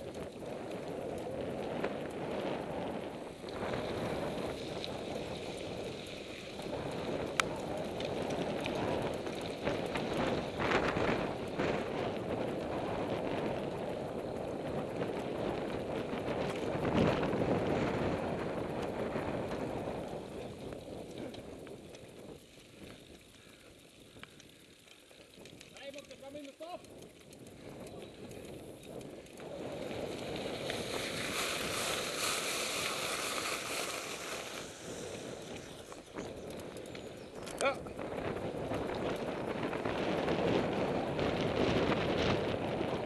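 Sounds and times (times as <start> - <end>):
tyres rolling over dirt: 0.0 - 43.0
wind buffeting microphone: 0.0 - 43.0.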